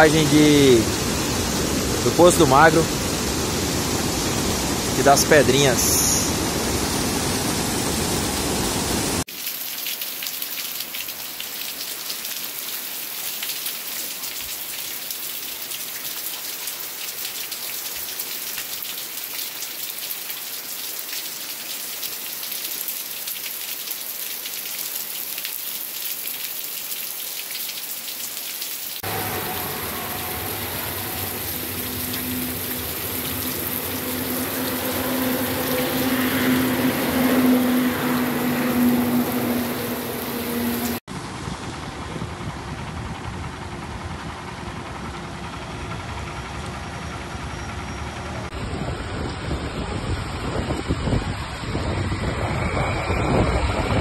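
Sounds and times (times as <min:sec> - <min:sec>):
floodwater rushing over spillway: 0:00.0 - 0:43.4
heavy rain: 0:00.0 - 0:43.8.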